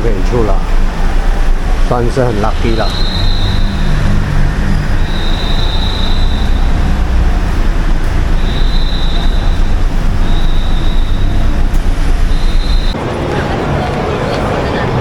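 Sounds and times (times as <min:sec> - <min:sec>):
car and road rumble: 0:00.0 - 0:15.0.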